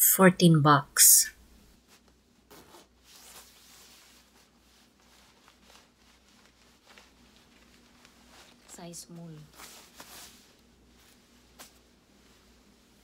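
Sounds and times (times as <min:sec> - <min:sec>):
nylon vest rustling: 0:01.8 - 0:13.0.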